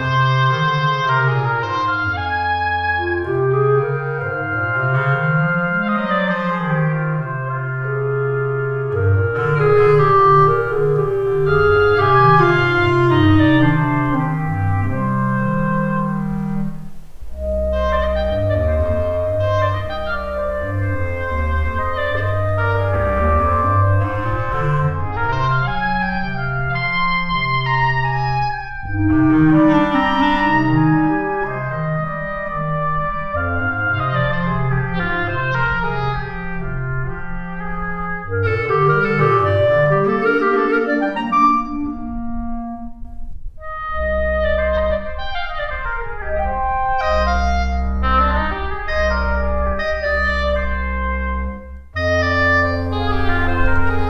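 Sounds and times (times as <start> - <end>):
instrumental background music: 0.0 - 54.0.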